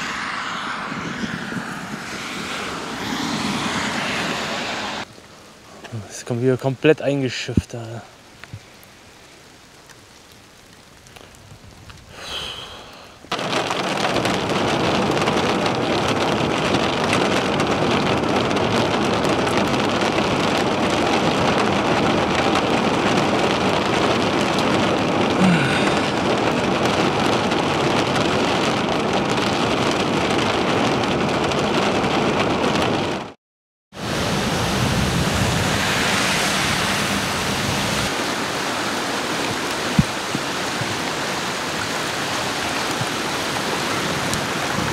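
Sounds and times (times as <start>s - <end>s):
heavy rain downpour: 0.0s - 44.9s.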